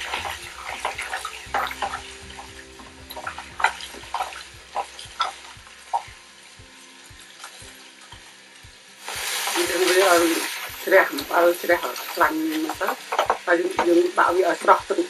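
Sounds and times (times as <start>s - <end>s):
background music with soft beat: 0.0s - 15.0s
tap water running: 0.0s - 15.0s.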